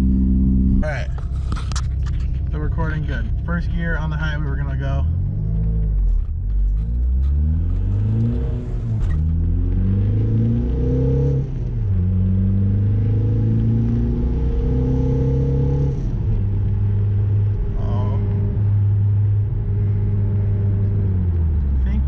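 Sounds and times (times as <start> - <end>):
diesel engine accelerating: 0.0 - 22.0.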